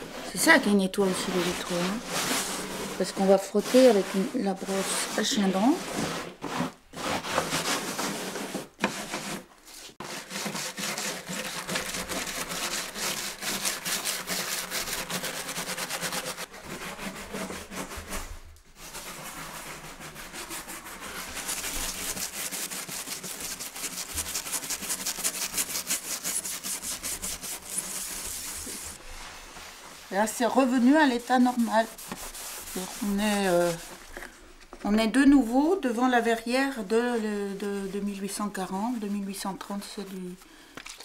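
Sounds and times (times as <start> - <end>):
brush scrubbing sawdust on glass: 0.0 - 34.1.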